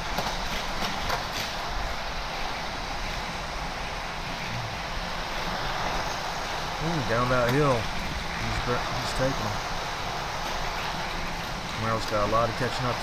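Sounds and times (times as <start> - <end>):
toy cars on plastic track: 0.0 - 13.0
track booster whirring: 0.0 - 13.0.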